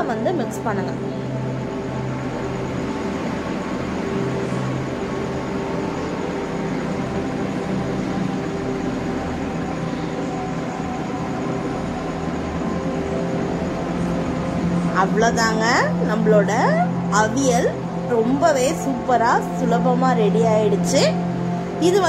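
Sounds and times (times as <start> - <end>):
mechanical hum with held tones: 0.0 - 22.0.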